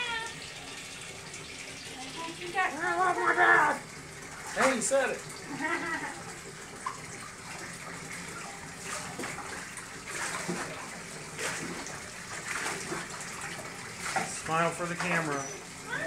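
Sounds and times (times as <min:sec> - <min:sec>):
bathwater splashing: 0:00.0 - 0:16.0.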